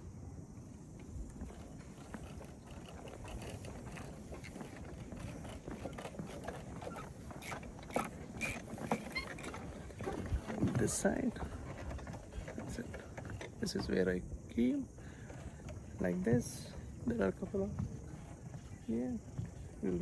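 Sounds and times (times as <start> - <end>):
footsteps on wooden walkway: 0.6 - 20.0.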